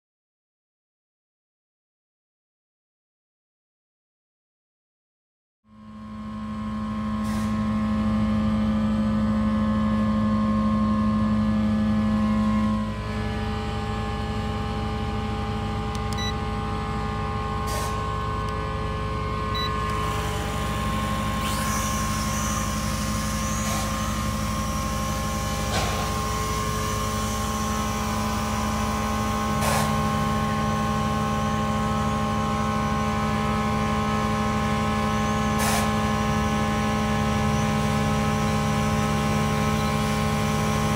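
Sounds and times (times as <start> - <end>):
mechanical hum: 5.7 - 40.9.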